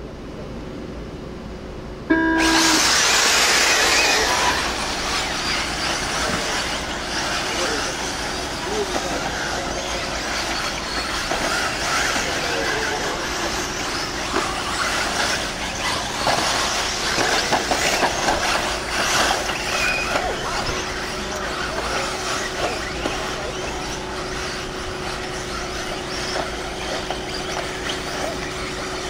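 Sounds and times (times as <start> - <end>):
rc buggies racing on dirt: 2.4 - 29.0.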